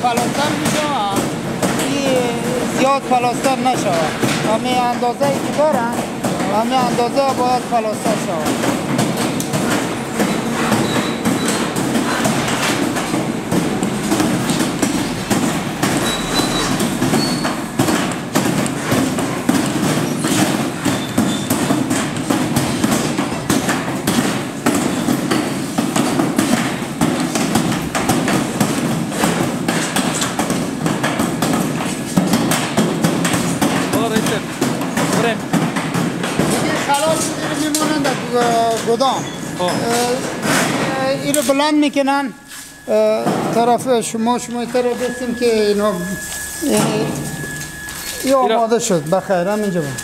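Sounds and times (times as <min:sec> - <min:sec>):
factory machinery clattering: 0:00.0 - 0:50.0.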